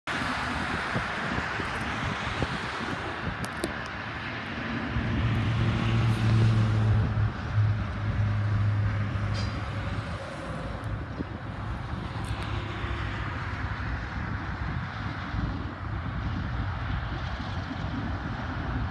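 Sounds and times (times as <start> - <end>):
diesel locomotive engines droning: 0.1 - 18.9.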